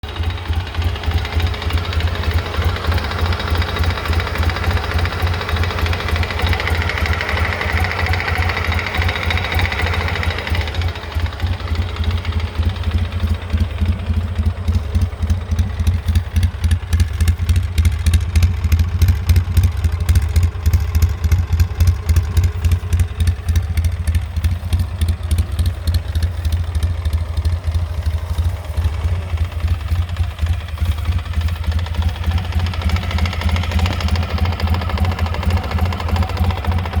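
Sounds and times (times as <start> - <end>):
atv engine idling with knocking: 0.0 - 37.0.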